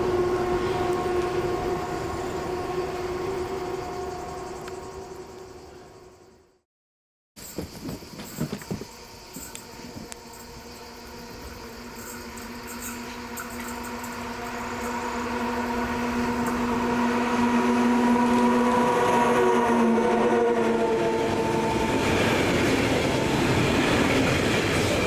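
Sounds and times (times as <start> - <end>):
train locomotive hum: 0.0 - 6.6, 7.4 - 25.0.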